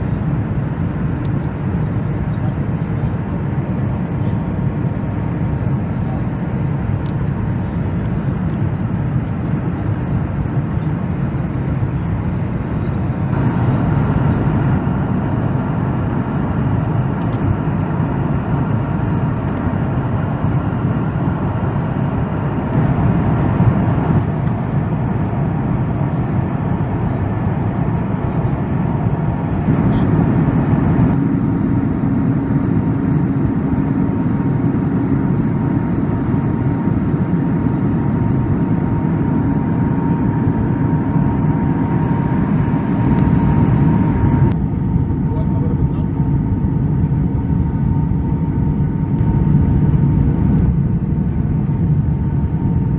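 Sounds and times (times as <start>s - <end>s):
jet engines heard from cabin: 0.0s - 52.9s
low hum: 0.0s - 52.9s.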